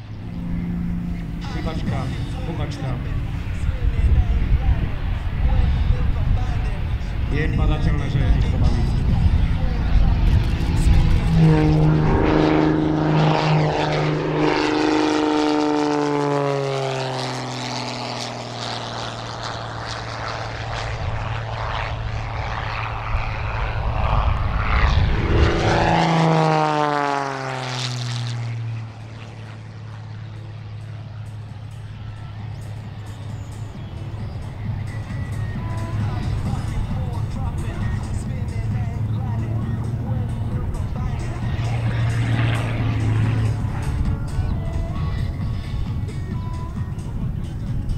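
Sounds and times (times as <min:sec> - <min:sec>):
propeller plane passing by: 0:00.0 - 0:47.9.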